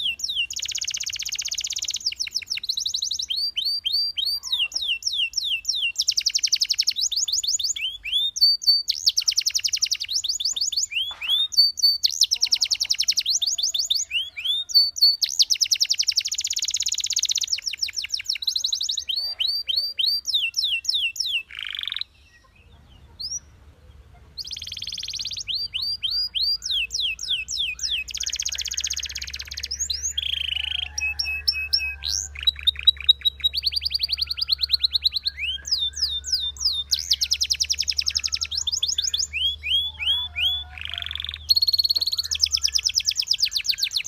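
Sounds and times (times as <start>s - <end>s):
canary singing: 0.0s - 44.0s.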